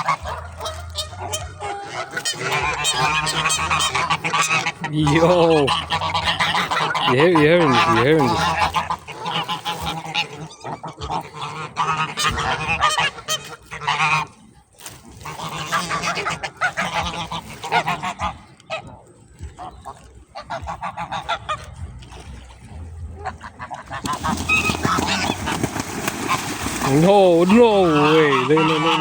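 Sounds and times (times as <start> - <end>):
geese honking: 0.0 - 14.5, 15.1 - 18.9, 19.5 - 22.5, 23.2 - 29.0.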